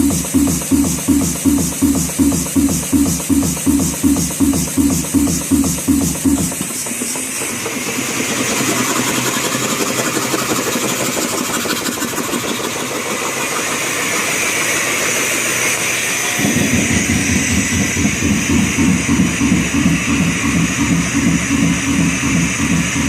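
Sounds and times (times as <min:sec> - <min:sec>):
air compressor whirring: 0:00.0 - 0:23.0
compressor rhythmic pulsing: 0:00.0 - 0:23.0.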